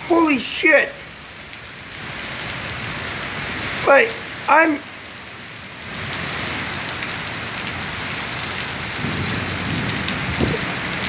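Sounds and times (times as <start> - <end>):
storm rain and wind: 0.0 - 11.0.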